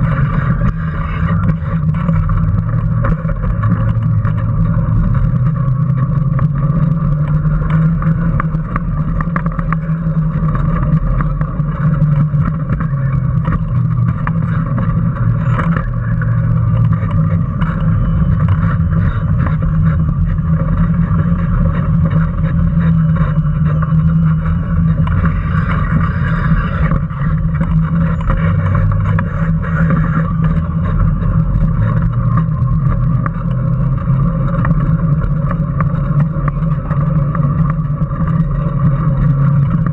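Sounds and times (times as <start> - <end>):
electric kart low rumble: 0.0 - 39.9
rattling and clatter: 0.0 - 39.9.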